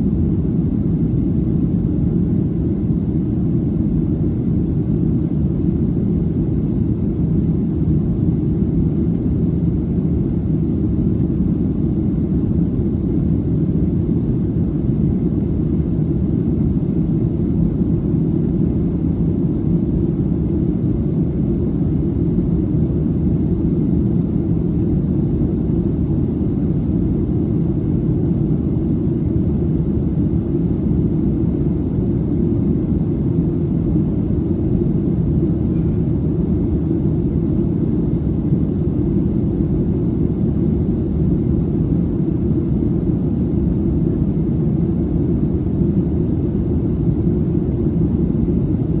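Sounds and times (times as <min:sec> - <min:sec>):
airplane cabin rumble: 0:00.0 - 0:49.0.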